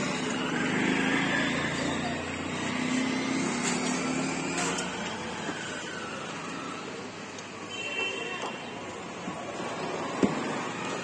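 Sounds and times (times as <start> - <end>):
road traffic with engine hum: 0.0 - 11.0.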